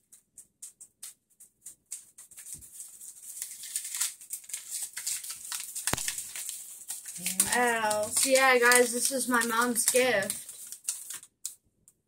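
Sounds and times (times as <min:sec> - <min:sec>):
paper packaging rustling: 0:01.0 - 0:11.6.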